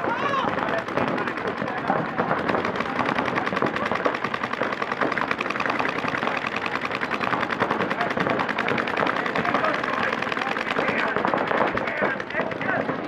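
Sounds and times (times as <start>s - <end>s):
paintball markers firing: 0.0s - 13.0s.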